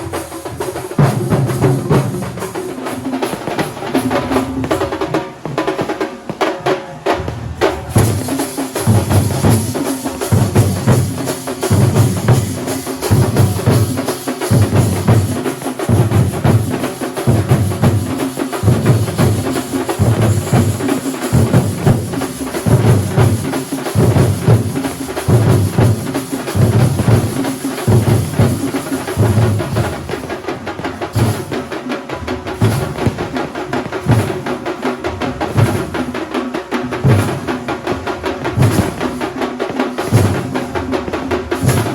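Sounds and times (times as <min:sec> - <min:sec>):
fast dense drumming: 0:00.0 - 0:41.9.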